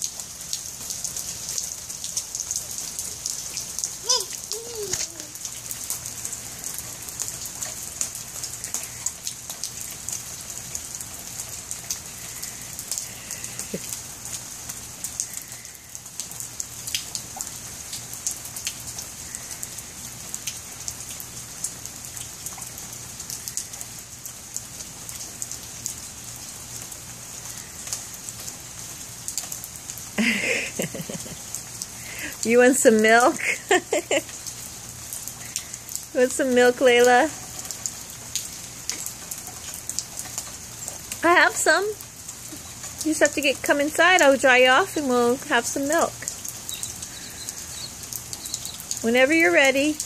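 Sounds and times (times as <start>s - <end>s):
rain falling: 0.0s - 50.0s
raindrops ticking on surfaces: 0.0s - 50.0s.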